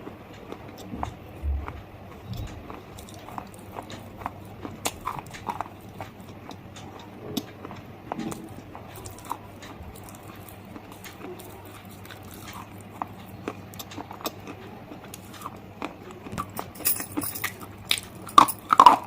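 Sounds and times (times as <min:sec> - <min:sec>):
crunching stone between teeth: 0:00.0 - 0:19.0.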